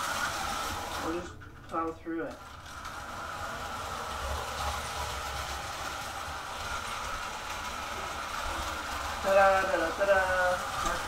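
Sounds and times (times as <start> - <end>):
toy train running on track: 0.0 - 11.0.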